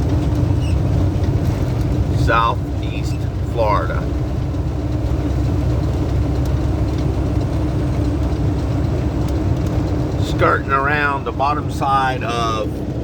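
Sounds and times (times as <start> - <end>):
constant hum: 0.0 - 13.0
road rumble: 0.0 - 13.0
truck engine drone: 0.0 - 13.0.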